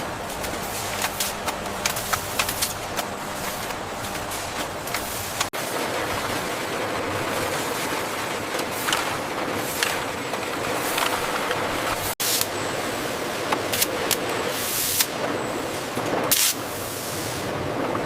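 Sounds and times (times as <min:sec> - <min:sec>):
steady machine noise: 0:00.0 - 0:17.8.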